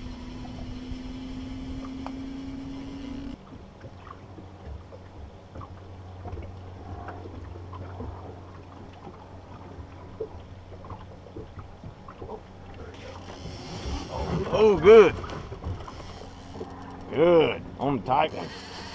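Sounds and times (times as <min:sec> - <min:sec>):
boat motor hum: 0:00.0 - 0:18.9.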